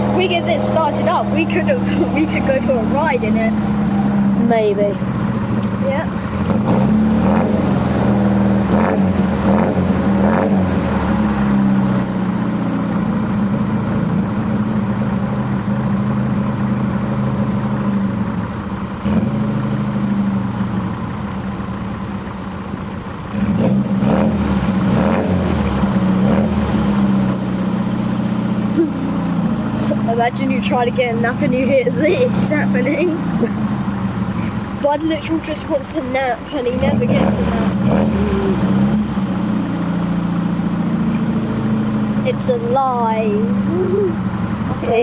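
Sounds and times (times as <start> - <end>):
car engine running on throttle: 0.0 - 45.0.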